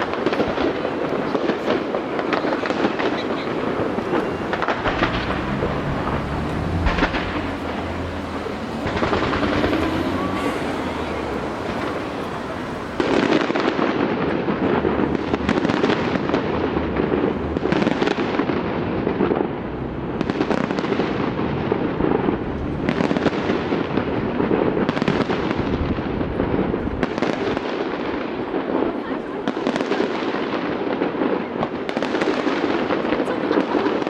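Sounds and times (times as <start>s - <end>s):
fireworks crackling and bursting: 0.0s - 34.0s.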